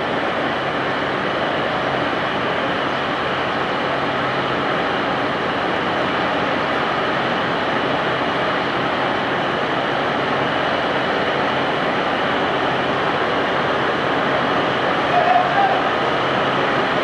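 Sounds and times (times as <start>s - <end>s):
diesel railcar engines droning: 0.0s - 17.0s.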